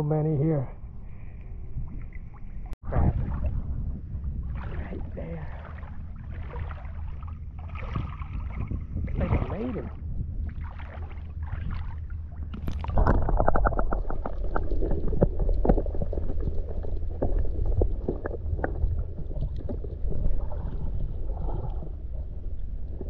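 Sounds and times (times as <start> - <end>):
muffled underwater rumble and gurgling: 0.7 - 23.0.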